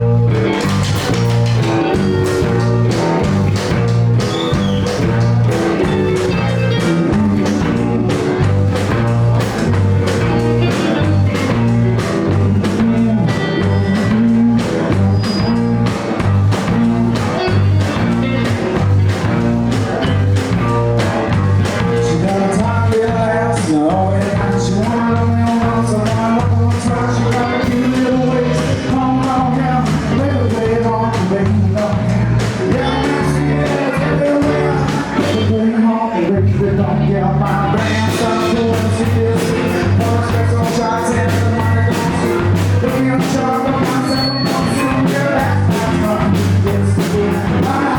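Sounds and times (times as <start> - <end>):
blues-rock band playing: 0.0 - 47.9.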